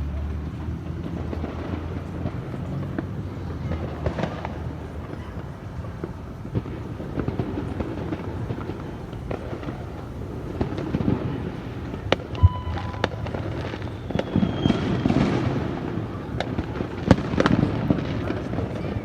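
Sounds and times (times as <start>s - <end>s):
distant firecrackers popping: 0.0s - 19.0s.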